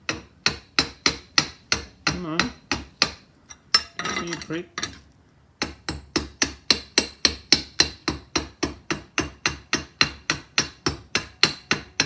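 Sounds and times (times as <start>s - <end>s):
hammer tapping on metal: 0.0s - 5.0s, 5.6s - 12.0s.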